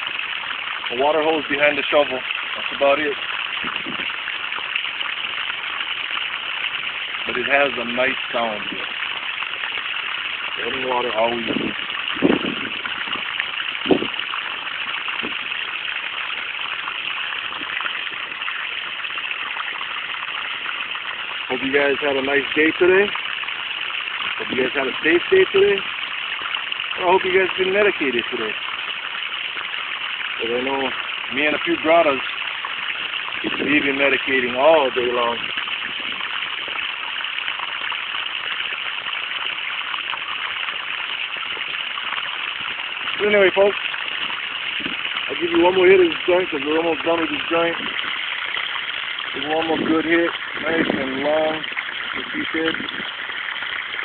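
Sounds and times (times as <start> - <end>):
hose water splashing: 0.0 - 54.0.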